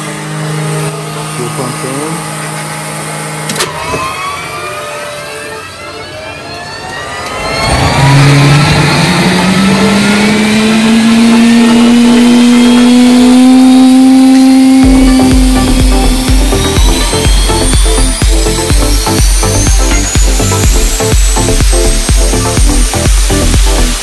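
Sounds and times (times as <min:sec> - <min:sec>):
turbine whine rising in pitch: 0:00.0 - 0:24.0.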